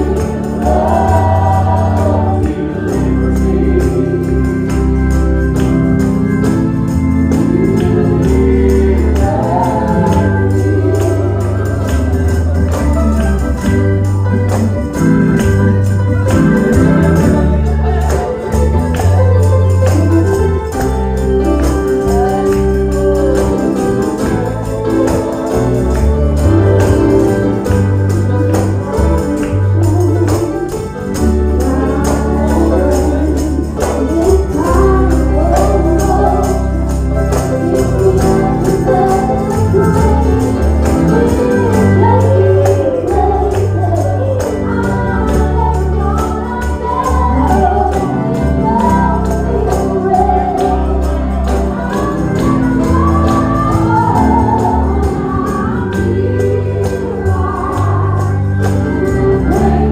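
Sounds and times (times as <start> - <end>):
singing voices: 0.0 - 5.7, 6.8 - 15.8, 16.4 - 59.9
organ chords: 0.0 - 59.9.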